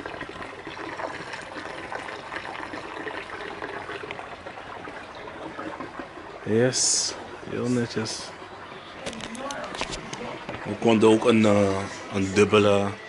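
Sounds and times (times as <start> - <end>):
pool water trickling: 0.0 - 13.0.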